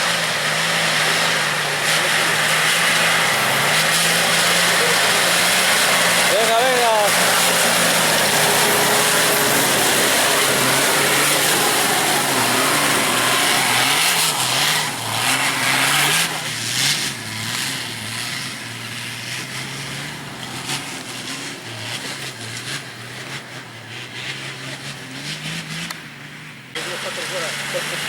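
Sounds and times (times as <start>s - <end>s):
engine revving hard: 0.0s - 26.1s, 26.8s - 28.0s.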